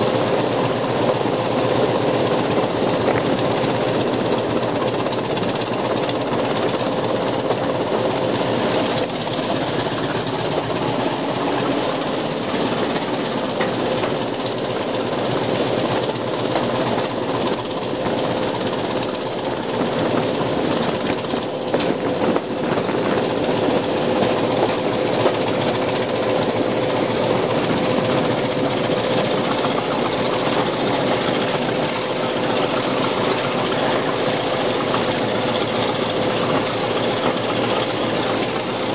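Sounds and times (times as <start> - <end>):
diesel locomotive engine clattering: 0.0 - 38.9
wheels on rails: 0.0 - 38.9.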